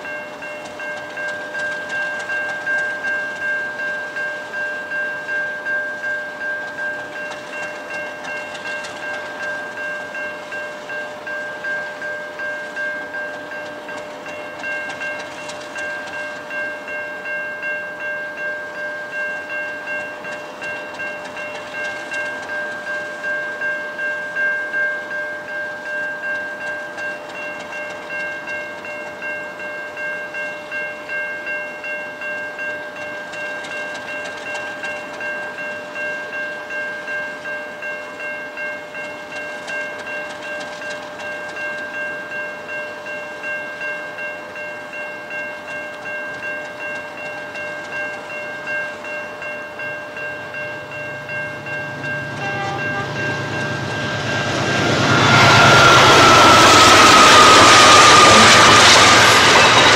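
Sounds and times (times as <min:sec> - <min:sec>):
diesel locomotive engine whining: 0:00.0 - 0:59.9.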